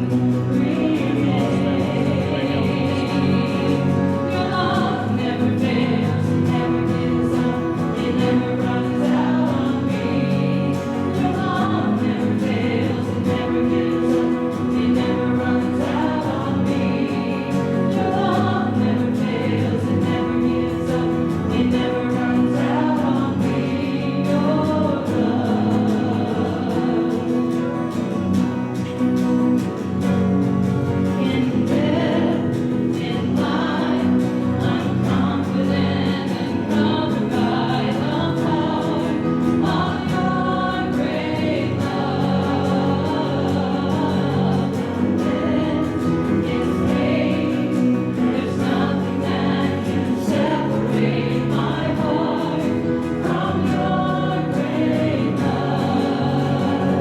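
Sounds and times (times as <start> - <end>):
church choir singing: 0.0 - 57.0
musical accompaniment: 0.0 - 57.0.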